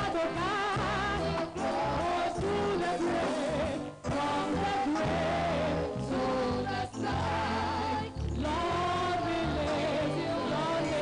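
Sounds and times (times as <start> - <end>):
hymn singing: 0.0 - 11.0
steady bass accompaniment: 0.0 - 11.0.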